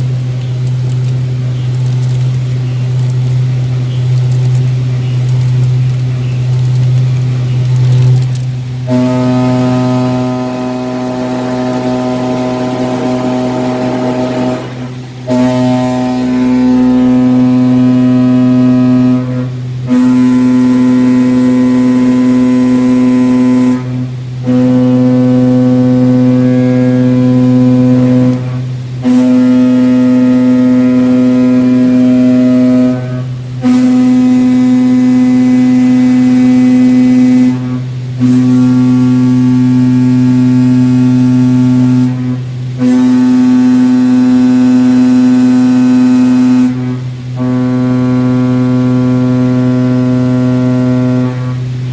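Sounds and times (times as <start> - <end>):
cutting tool chatter buzzing: 0.0 - 42.2
low hum: 0.0 - 51.9.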